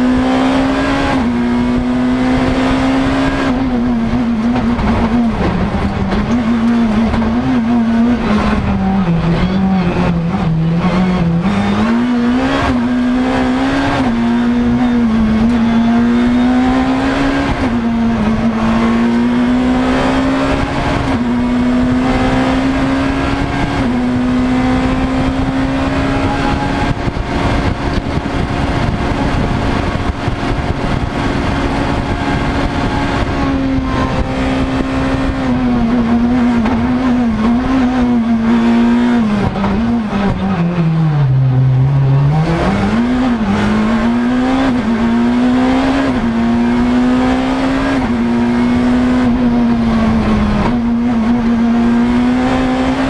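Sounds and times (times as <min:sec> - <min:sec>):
rally car engine at full throttle: 0:00.0 - 0:53.0.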